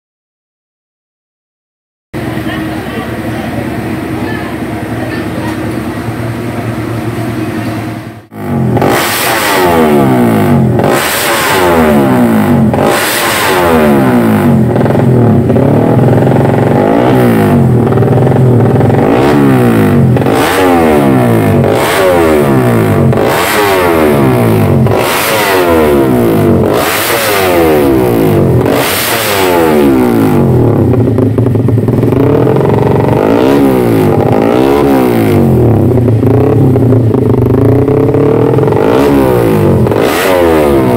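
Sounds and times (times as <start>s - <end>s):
two-stroke motorcycle engine revving: 2.2s - 40.9s.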